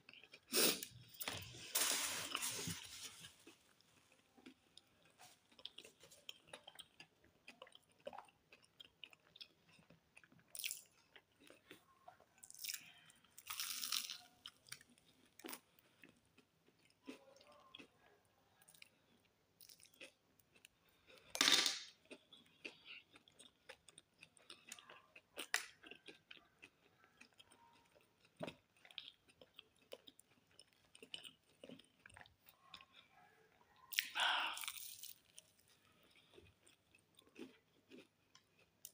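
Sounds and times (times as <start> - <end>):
soft crunches and mouth noises: 0.0 - 21.3, 22.0 - 38.9
person chewing pastry: 0.0 - 38.9.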